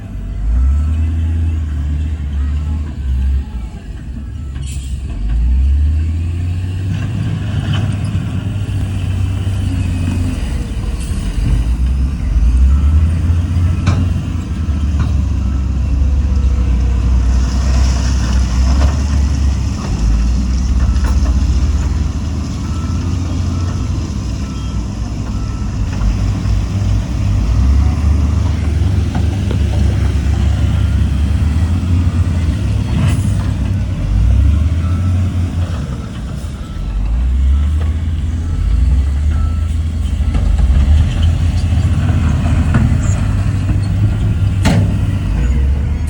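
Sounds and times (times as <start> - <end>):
diesel engine rumbling: 0.0 - 46.0.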